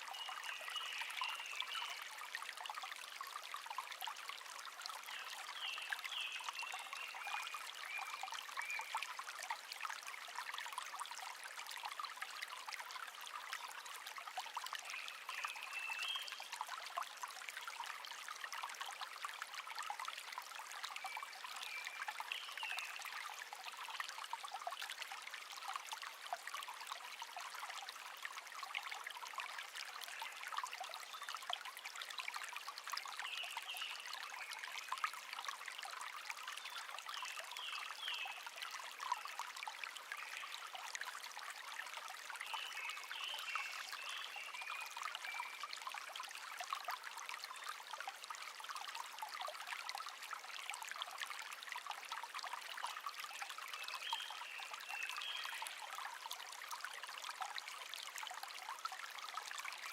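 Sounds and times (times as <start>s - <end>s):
brook babbling over stones: 0.0s - 59.9s.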